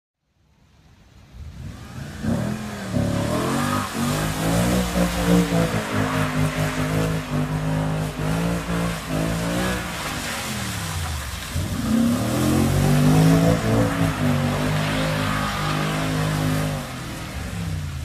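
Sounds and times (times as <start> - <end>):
car engine revving high: 1.6 - 11.0, 11.6 - 17.8.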